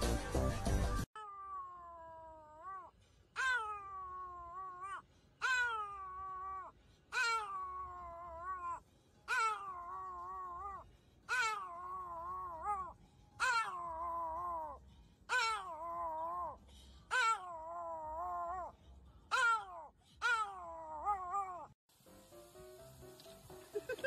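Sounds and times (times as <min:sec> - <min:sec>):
small dog howling: 0:01.2 - 0:18.7, 0:19.3 - 0:21.8.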